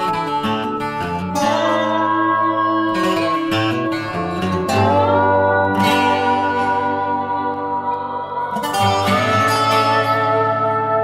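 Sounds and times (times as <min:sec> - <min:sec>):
plucked and strummed guitar: 0:00.0 - 0:11.0
slide guitar: 0:00.0 - 0:11.0.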